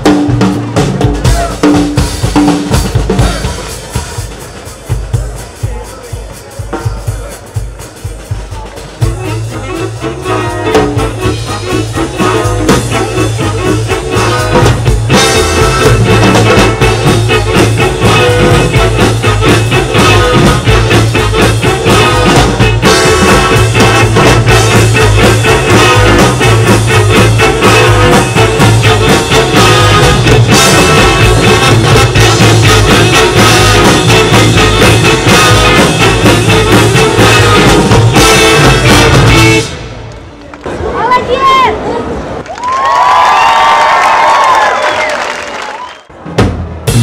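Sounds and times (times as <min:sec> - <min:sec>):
big band jazz: 0:00.0 - 0:40.2, 0:46.3 - 0:47.0.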